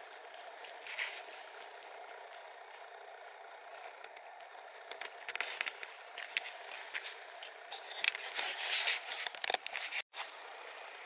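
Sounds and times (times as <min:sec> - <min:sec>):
leaves and twigs rustling: 0:00.0 - 0:10.4.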